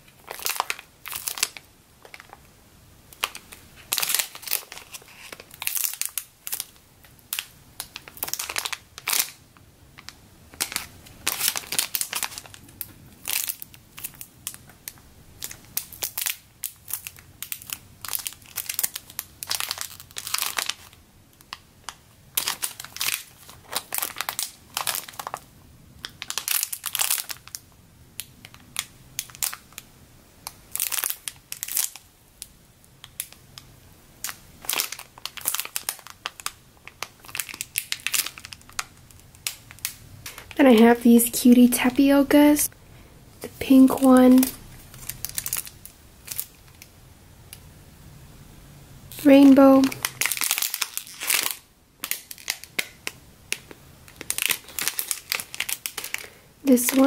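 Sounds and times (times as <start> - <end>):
plastic bags crinkling: 0.0 - 2.5, 3.1 - 9.4, 10.0 - 42.7, 43.4 - 46.9, 49.1 - 57.0.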